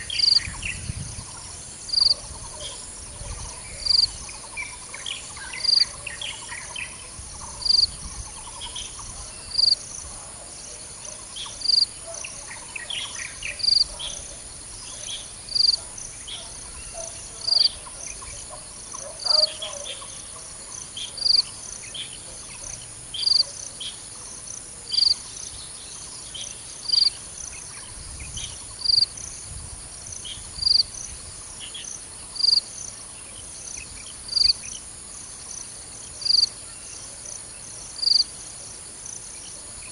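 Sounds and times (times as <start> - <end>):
insect buzzing hiss: 0.0 - 10.2, 10.8 - 39.9
loud high insect chirp: 0.0 - 39.9.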